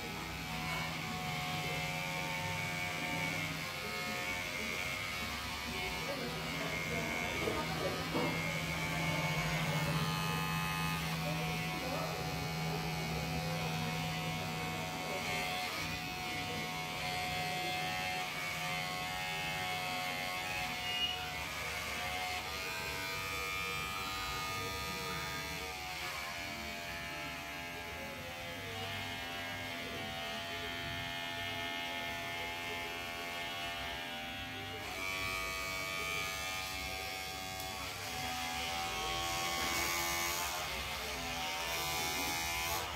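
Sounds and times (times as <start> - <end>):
electric hair clipper humming: 0.0 - 42.9.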